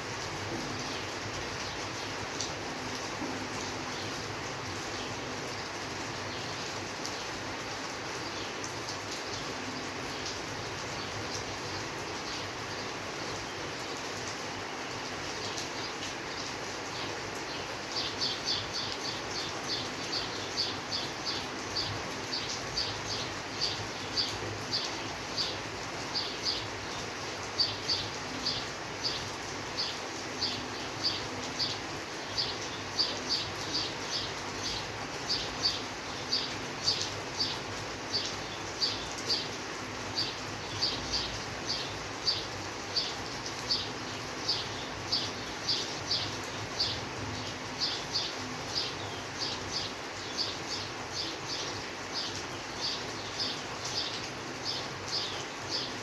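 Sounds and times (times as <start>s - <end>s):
rainfall hiss: 0.0s - 56.0s.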